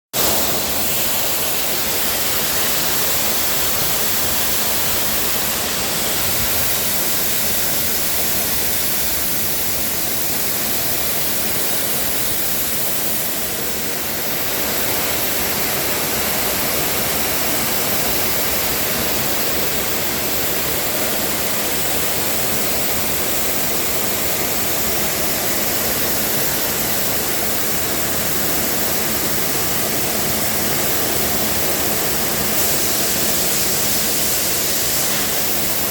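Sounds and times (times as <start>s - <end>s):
pressure washer water jets hissing: 0.2s - 35.9s.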